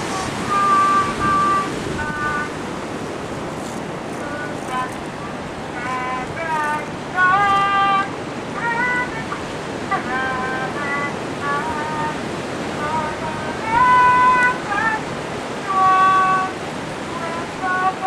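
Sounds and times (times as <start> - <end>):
water and wind noise: 0.0 - 18.0.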